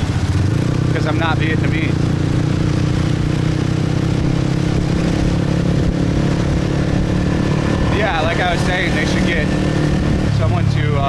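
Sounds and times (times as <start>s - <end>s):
motorbike engine cruising: 0.0s - 11.0s
road and wind noise: 0.0s - 11.0s.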